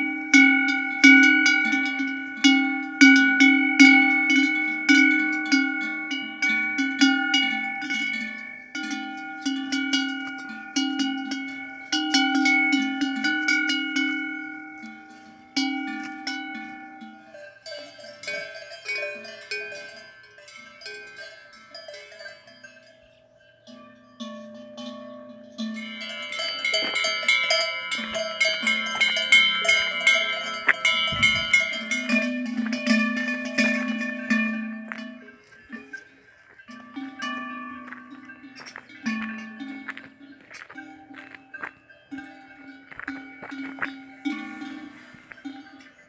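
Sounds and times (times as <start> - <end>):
cowbell clanking: 0.0 - 46.0
higher-pitched bell ringing: 0.0 - 46.0.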